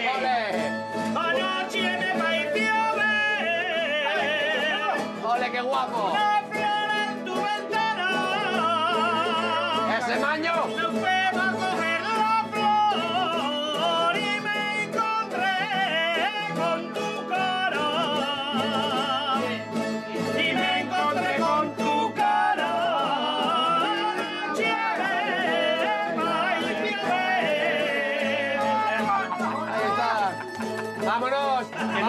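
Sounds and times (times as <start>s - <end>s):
man singing with vibrato: 0.0s - 30.4s
plucked string ensemble: 0.0s - 32.0s.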